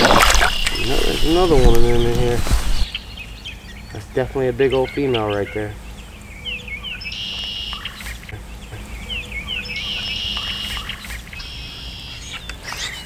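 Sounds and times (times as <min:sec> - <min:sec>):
songbird chirping and trilling: 0:00.4 - 0:13.0.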